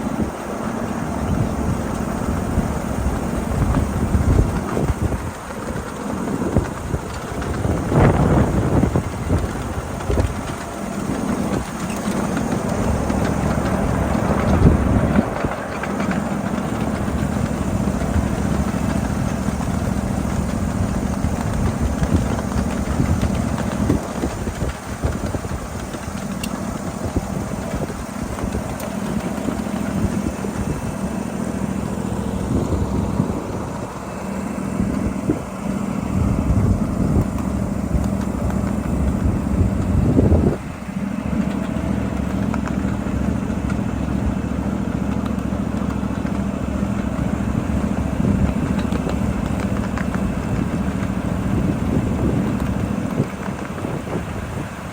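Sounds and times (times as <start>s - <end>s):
miniature train motor drone: 0.0s - 54.9s
wheels rumbling on rails: 0.0s - 54.9s.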